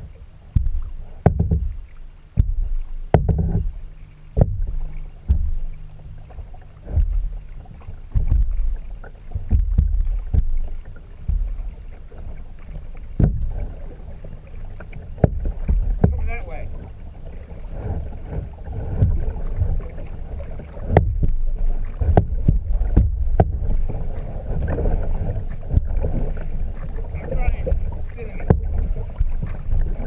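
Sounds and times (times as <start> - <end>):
paddle knocking kayak hull: 0.0 - 30.0
wind rumble on microphone: 0.0 - 30.0.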